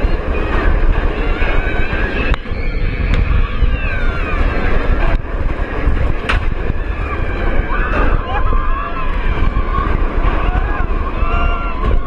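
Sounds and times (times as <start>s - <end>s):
riders screaming: 0.0s - 5.5s, 6.5s - 12.0s
roller coaster roaring on track: 0.0s - 12.0s
wind on microphone: 0.0s - 12.0s.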